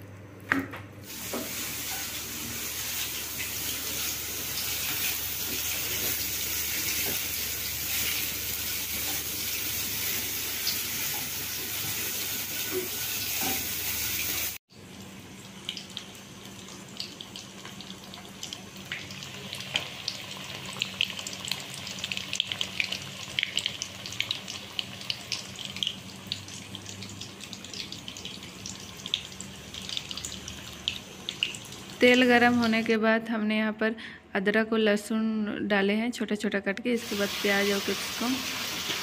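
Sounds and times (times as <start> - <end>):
chicken deep-frying in oil: 1.0 - 32.8, 37.0 - 39.0.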